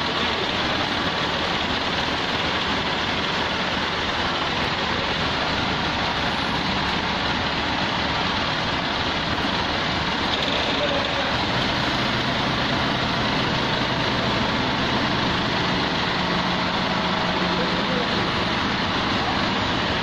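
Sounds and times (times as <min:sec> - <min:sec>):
forklift engine running: 0:00.0 - 0:20.0.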